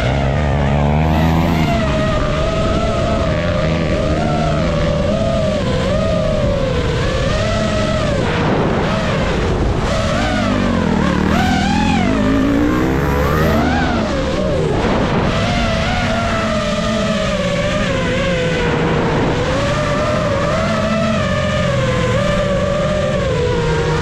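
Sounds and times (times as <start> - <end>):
high-revving motors whining: 0.0 - 24.0.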